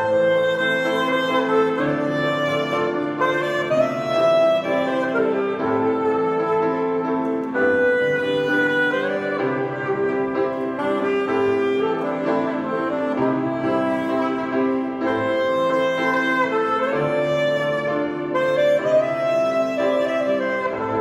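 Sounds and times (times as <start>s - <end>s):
grand piano chords: 0.0s - 21.0s
saxophone playing hymn melody: 0.0s - 21.0s.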